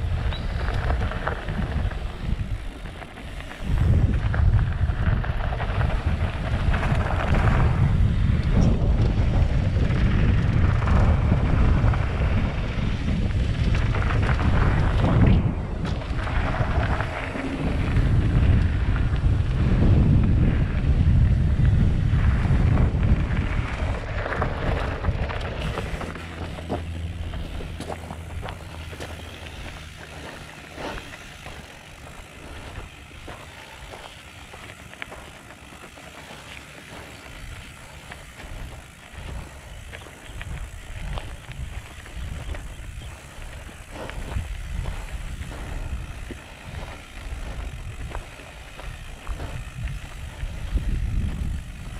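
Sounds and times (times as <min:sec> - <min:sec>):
mountain bike rolling on dirt: 0:00.0 - 0:51.9
wind noise on microphone: 0:00.0 - 0:51.9.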